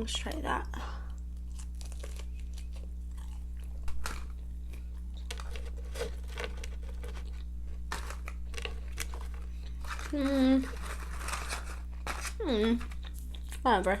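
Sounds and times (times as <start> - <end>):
steady low hum: 0.0 - 14.0
crunchy chewing: 1.1 - 13.7.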